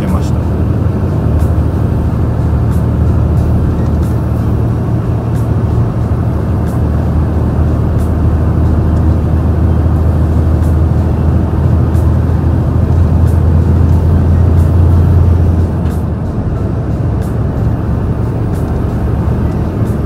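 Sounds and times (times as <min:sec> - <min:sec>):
diesel truck engine growling: 0:00.0 - 0:20.0.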